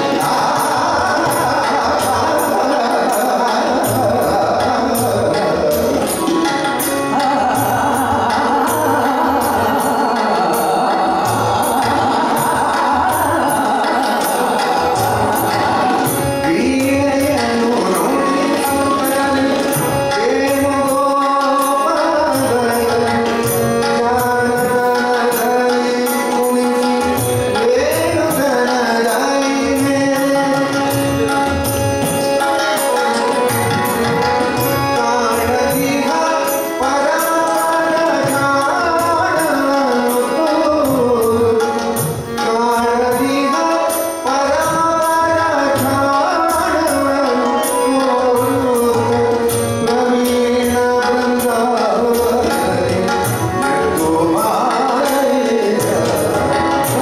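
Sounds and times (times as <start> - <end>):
harmonium: 0.0 - 57.0
man singing devotional melody: 0.0 - 57.0
tabla: 0.0 - 57.0.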